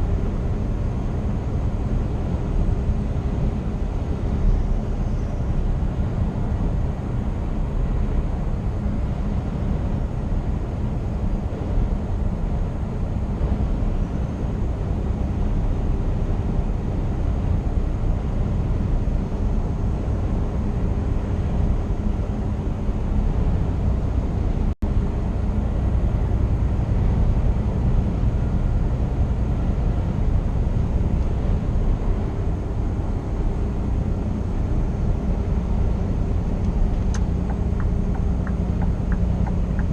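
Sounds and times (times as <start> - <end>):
road noise: 0.0 - 39.9
truck engine rumbling: 0.0 - 39.9.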